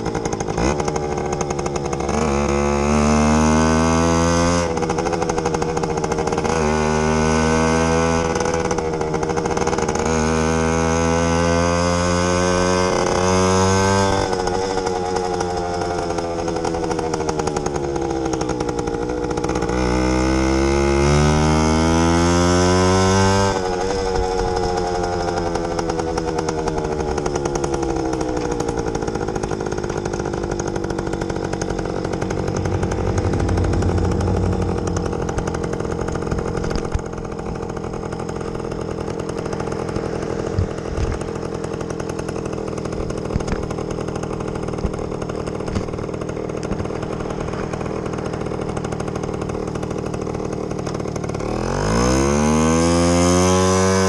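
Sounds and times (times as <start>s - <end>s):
motorcycle engine shifting up: 0.0s - 54.0s.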